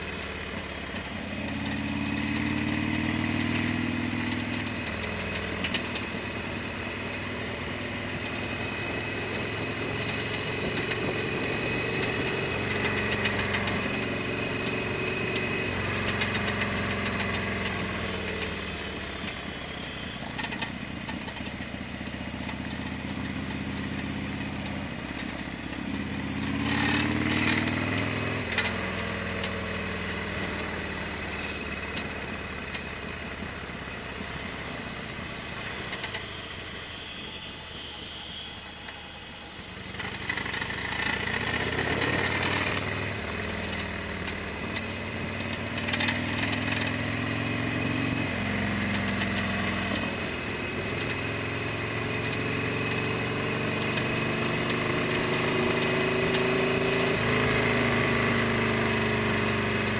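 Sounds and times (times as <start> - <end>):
motorcycle engine running: 0.0 - 38.0, 39.4 - 59.9.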